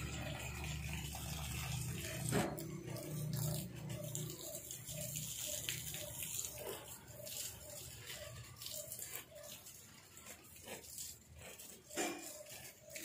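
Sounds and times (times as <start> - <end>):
water running and splashing: 0.0 - 13.0.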